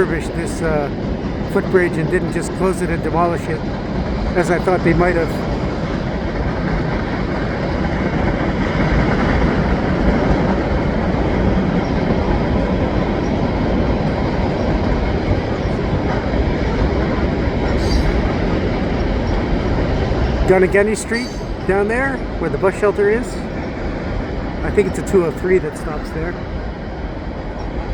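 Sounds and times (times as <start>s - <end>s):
freight train rolling on rails: 0.0s - 27.9s.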